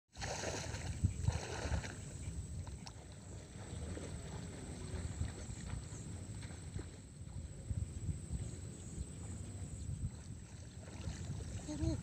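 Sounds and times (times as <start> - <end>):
water sloshing from wading: 0.1 - 12.0.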